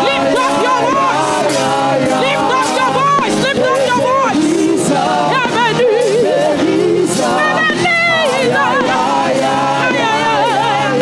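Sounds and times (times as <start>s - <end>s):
person singing with vibrato: 0.0s - 11.0s
sustained keyboard chords: 0.0s - 11.0s.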